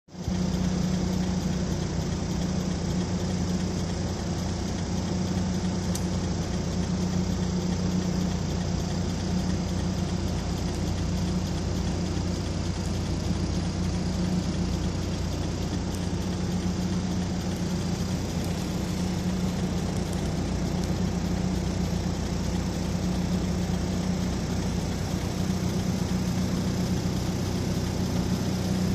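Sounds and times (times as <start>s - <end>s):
engine idling: 0.1s - 28.9s.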